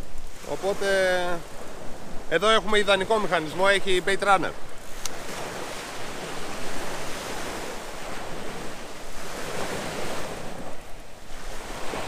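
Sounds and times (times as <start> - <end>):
sea waves washing on shore: 0.0 - 12.0
wind: 0.0 - 12.0.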